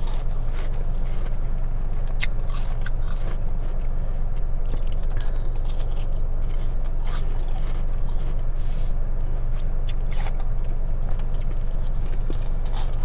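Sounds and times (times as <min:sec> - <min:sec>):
car low rumble: 0:00.0 - 0:13.0
chewing and crunching ice: 0:00.0 - 0:13.0.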